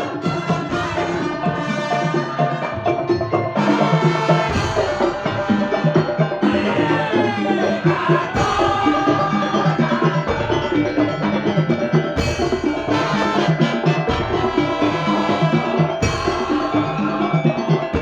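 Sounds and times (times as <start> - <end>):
percussion ensemble playing fast rhythm: 0.0 - 18.0.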